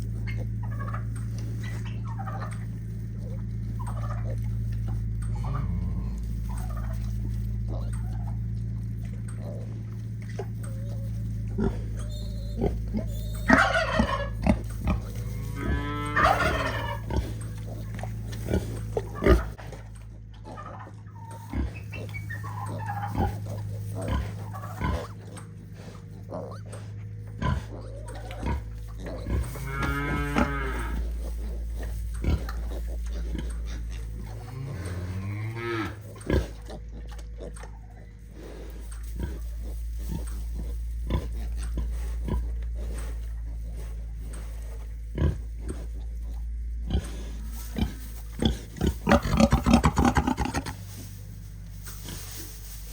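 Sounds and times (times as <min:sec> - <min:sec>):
farm animals calling: 0:00.0 - 0:52.9
steady low hum: 0:00.0 - 0:52.9.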